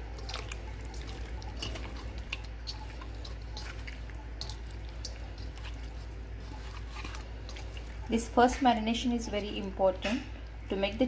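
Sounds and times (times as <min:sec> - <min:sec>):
wet squelching of chicken mixed by hand: 0:00.0 - 0:11.0.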